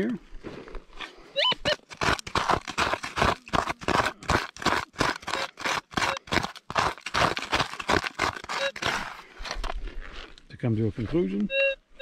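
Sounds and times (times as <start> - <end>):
plastic scoop scraping stony dirt: 0.0 - 10.4.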